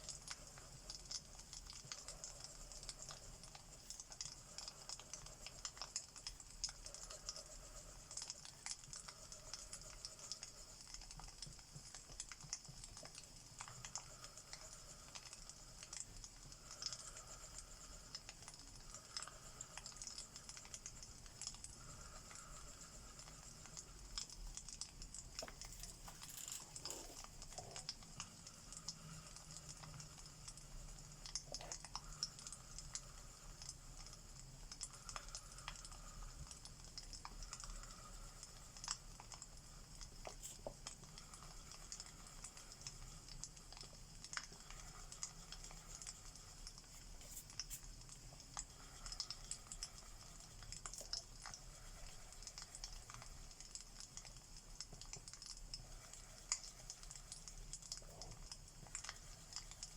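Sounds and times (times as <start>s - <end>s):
steady hiss: 0.0s - 59.9s
wood fire crackling: 0.0s - 59.9s.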